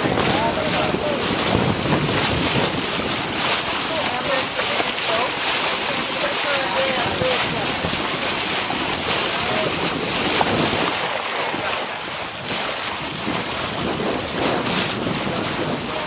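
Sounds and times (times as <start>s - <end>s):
water rushing past hull: 0.0s - 16.0s
wind buffeting microphone: 0.0s - 16.0s.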